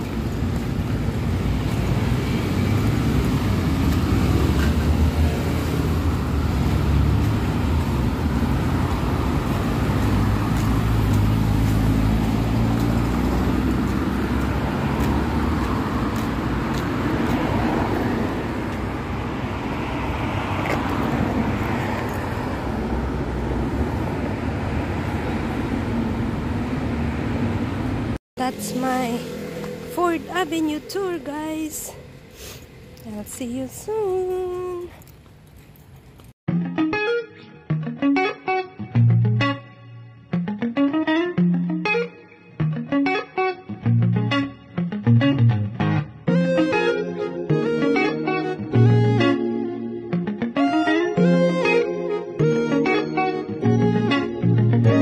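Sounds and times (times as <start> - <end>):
cars passing on street: 0.0 - 36.4, 37.0 - 55.0.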